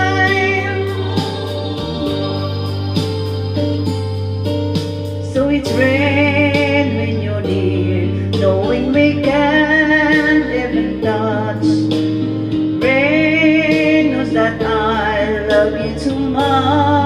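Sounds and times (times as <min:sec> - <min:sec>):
woman singing with vibrato: 0:00.0 - 0:04.6, 0:05.2 - 0:11.8, 0:12.8 - 0:17.0
instrumental backing track: 0:00.0 - 0:17.0.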